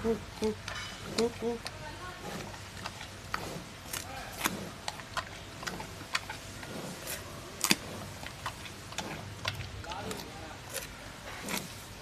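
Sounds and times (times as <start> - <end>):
panda chewing bamboo: 0.0 - 12.0.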